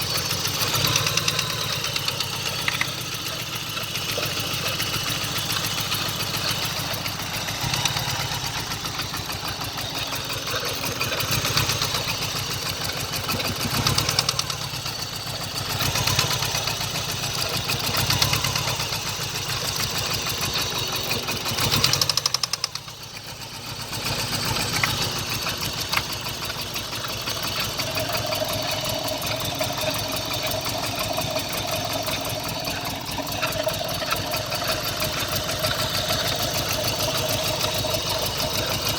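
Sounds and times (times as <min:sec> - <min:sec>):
engine idling with knock: 0:00.0 - 0:38.9.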